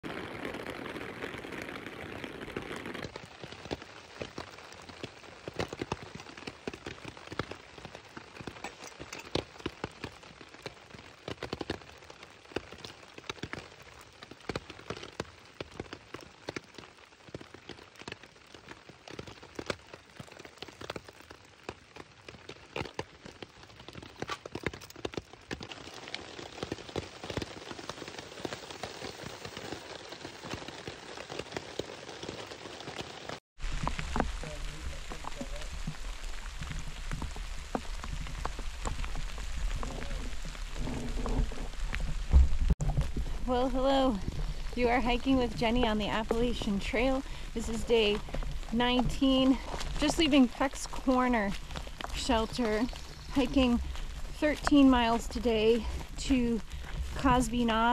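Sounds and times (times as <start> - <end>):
rain hiss: 0.0 - 23.9, 24.6 - 57.9
raindrops ticking on surface: 0.0 - 57.9.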